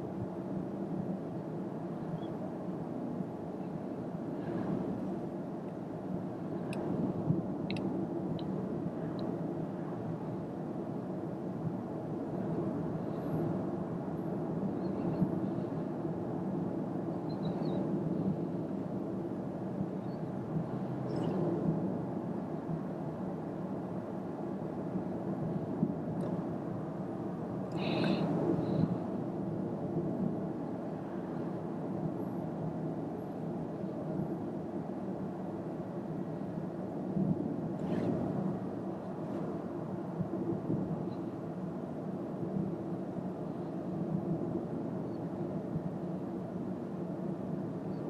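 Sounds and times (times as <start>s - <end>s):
tyre and wind rumble in car: 0.0s - 48.0s.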